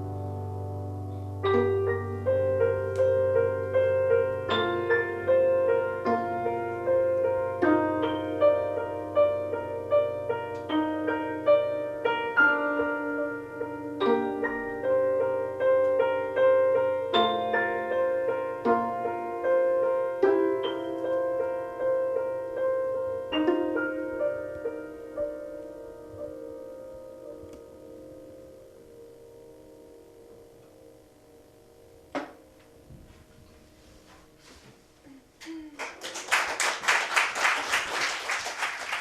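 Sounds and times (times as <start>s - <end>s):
keyboard chords: 0.0s - 35.4s.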